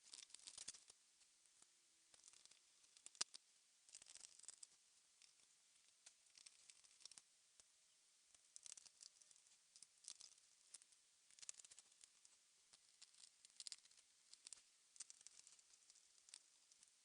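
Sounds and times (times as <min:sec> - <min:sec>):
faint small clicks and ticks: 0:00.0 - 0:17.0.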